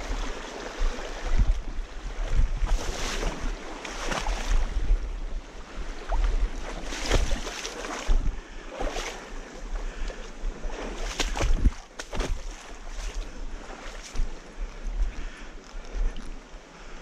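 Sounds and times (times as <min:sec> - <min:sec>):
water splashing and sloshing: 0:00.0 - 0:17.0
wind rumbling on microphone: 0:00.0 - 0:17.0.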